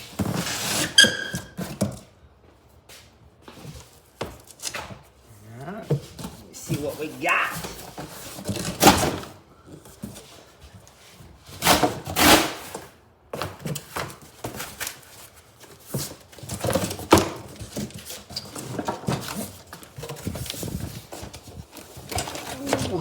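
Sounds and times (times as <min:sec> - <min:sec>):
cardboard rustling and scraping: 0:00.0 - 0:02.2, 0:03.4 - 0:23.0.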